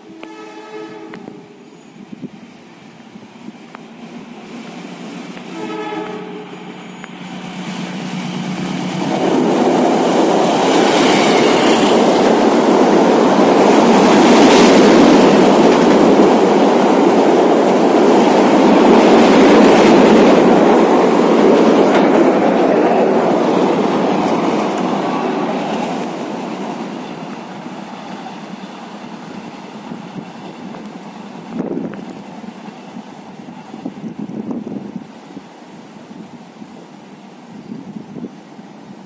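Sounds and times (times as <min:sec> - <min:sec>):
train wheels rumbling on bridge: 0:00.0 - 0:39.0.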